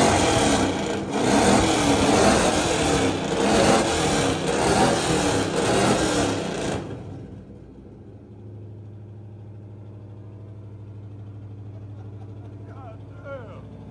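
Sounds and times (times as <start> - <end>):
car engine revving and idling: 0.0 - 13.9.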